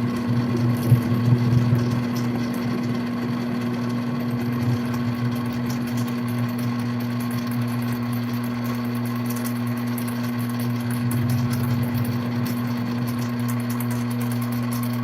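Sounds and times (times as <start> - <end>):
lathe motor humming: 0.0 - 15.0.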